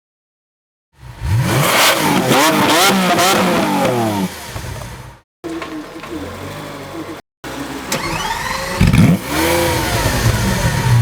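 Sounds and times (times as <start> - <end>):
sports car engine revving: 1.0 - 11.0.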